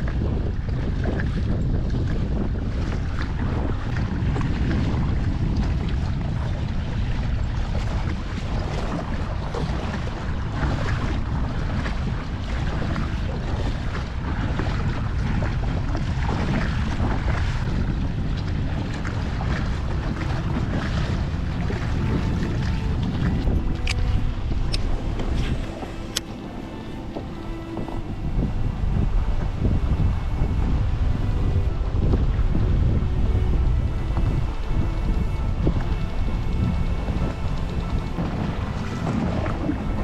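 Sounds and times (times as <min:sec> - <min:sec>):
water lapping against hull: 0:00.0 - 0:40.0
wind buffeting microphone: 0:00.0 - 0:40.0.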